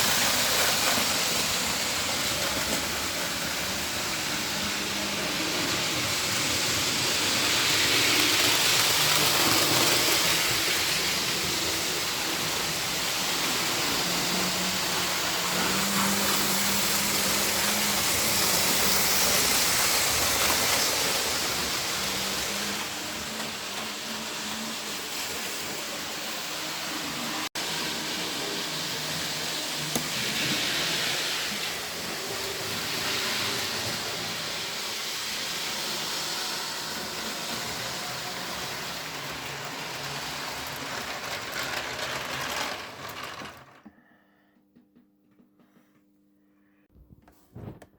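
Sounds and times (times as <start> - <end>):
model train wheels on track: 0.0 - 43.9.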